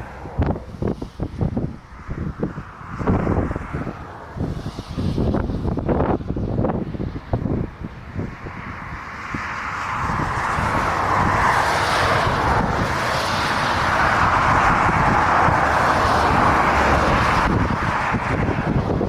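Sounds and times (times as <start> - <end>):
jet airliner approaching: 0.0 - 19.0.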